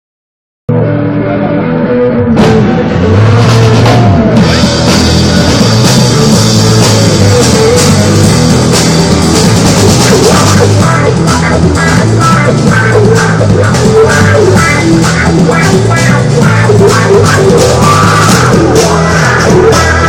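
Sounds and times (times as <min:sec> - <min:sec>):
loud rock music: 0:00.7 - 0:20.0.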